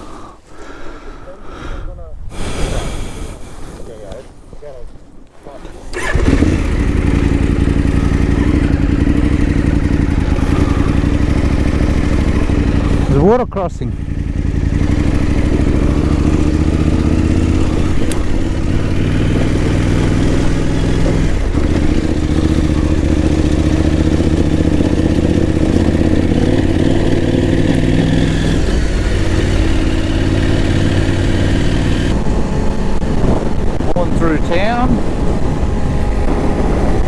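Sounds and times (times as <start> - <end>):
motorcycle engine running: 5.8 - 37.0.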